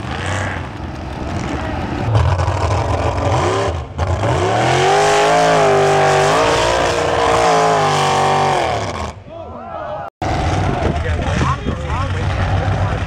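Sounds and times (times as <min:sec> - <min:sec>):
truck engine revving: 0:00.0 - 0:09.2, 0:10.2 - 0:13.0.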